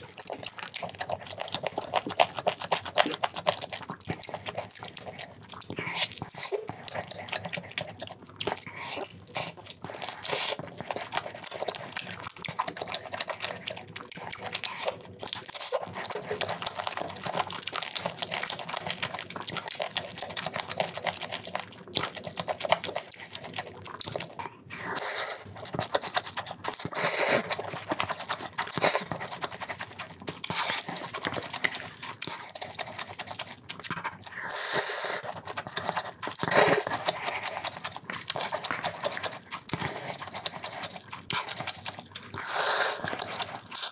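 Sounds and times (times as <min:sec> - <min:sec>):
wet chewing: 0:00.0 - 0:43.9.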